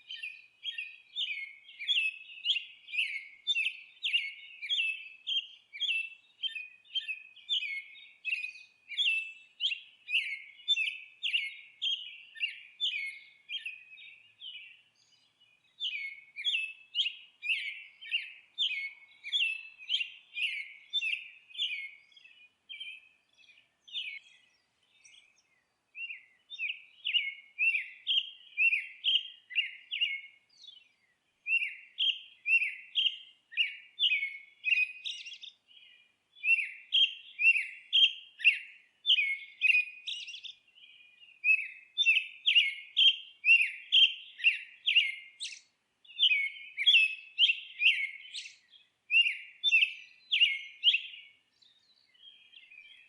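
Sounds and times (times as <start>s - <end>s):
songbird chirping: 0.0s - 53.0s.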